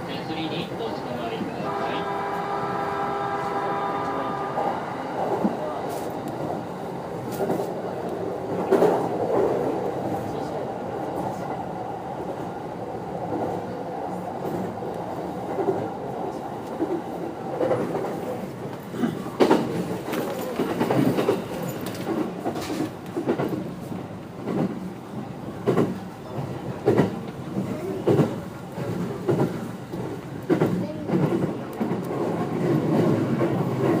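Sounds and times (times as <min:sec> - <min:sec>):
train rolling rumble: 0:00.0 - 0:34.0.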